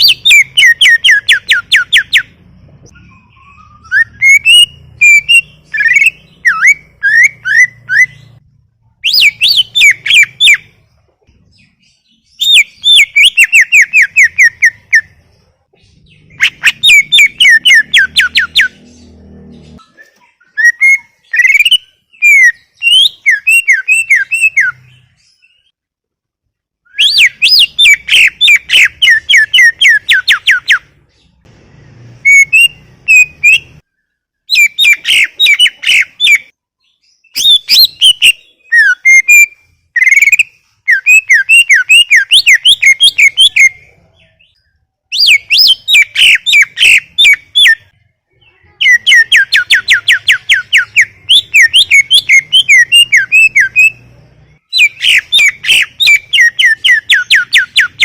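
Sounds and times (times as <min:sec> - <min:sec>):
bird whistling song: 0:00.0 - 0:08.4, 0:09.0 - 0:25.8, 0:26.8 - 0:31.3, 0:32.2 - 0:48.0, 0:48.8 - 0:58.0.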